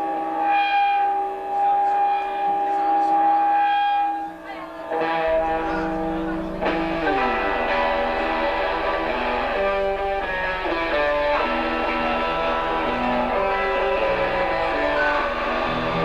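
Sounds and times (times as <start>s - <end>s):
ringing electric guitar: 0.0s - 16.0s.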